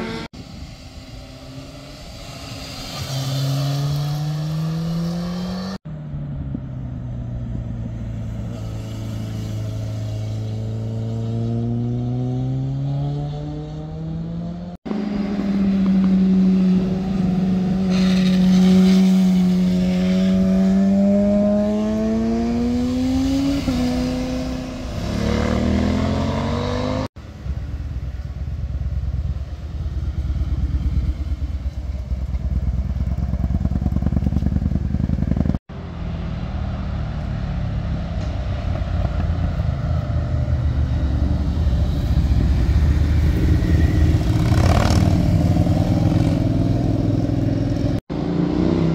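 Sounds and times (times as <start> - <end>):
cruiser motorcycles pulsing engines: 3.5 - 48.9.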